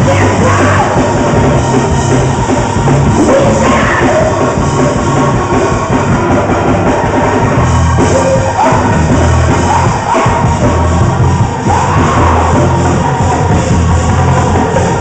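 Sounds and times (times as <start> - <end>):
live band playing upbeat music: 0.0 - 15.0
voices singing: 0.0 - 15.0.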